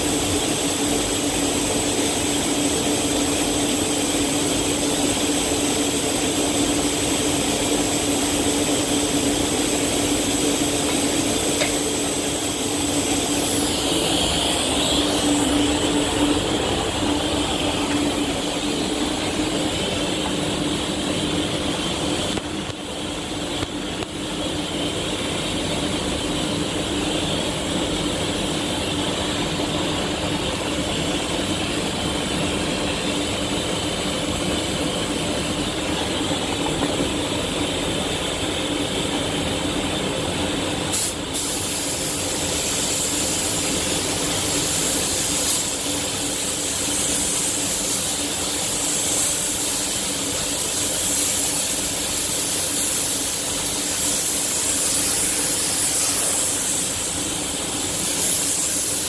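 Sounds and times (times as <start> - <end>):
spray gun hissing: 0.0 - 36.6, 40.8 - 59.0
steady low hum: 0.0 - 59.0.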